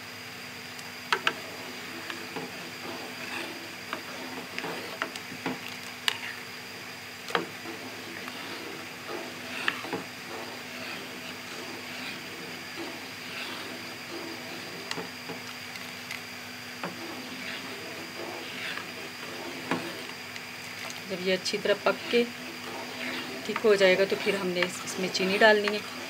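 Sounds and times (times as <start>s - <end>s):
steady low hum: 0.0s - 26.0s
wooden spoon stirring in a pot: 1.1s - 26.0s.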